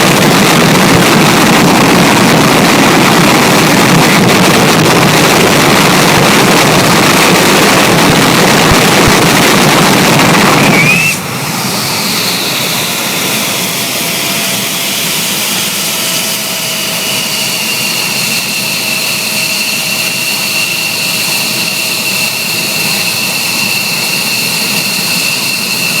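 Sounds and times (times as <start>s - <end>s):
high turbine whine: 0.0s - 26.0s
jet engine roaring: 0.0s - 26.0s.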